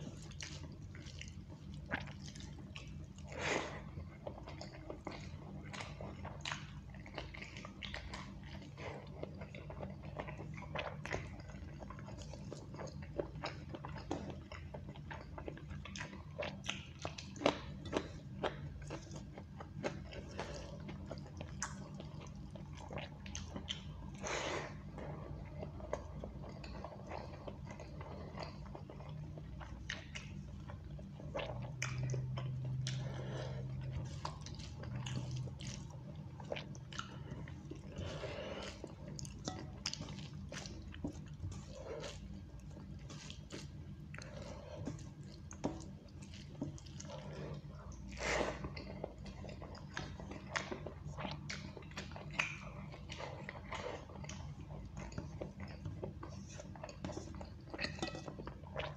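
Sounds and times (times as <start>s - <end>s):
chewing and wet mouth sounds: 0.0s - 58.9s.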